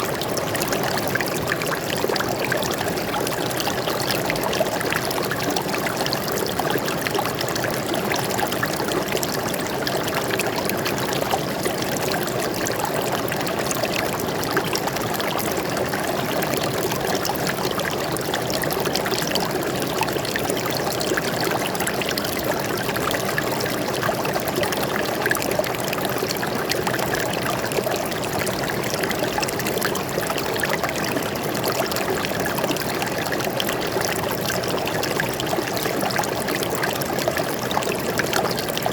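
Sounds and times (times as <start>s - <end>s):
stream water flowing over rocks: 0.0s - 38.9s.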